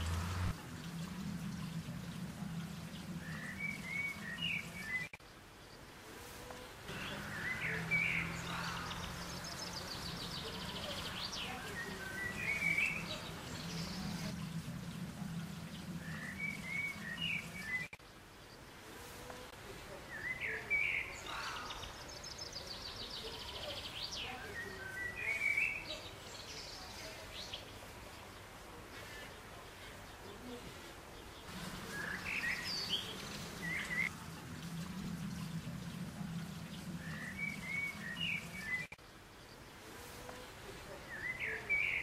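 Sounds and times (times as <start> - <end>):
low steady hum: 0.0 - 20.1, 26.1 - 41.2
small birds singing: 0.0 - 34.4, 35.3 - 42.0.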